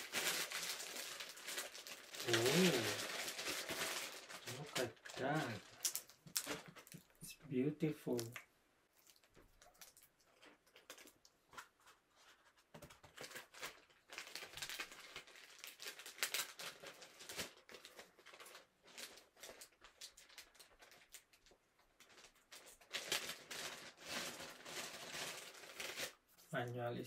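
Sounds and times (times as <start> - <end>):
packaging rustling and crinkling: 0.0 - 7.3, 9.0 - 26.5.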